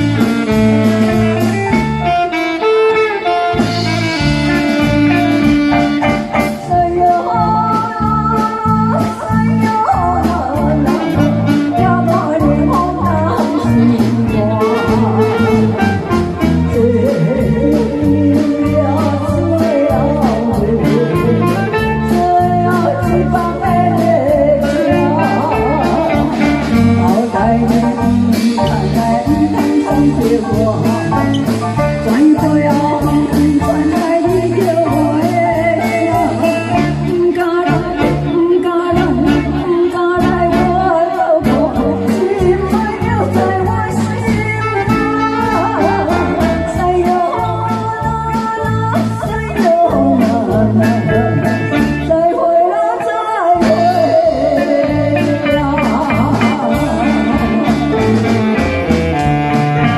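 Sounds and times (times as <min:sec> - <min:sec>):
woman singing through microphone: 0:00.0 - 0:58.8
live band playing: 0:00.0 - 0:59.9.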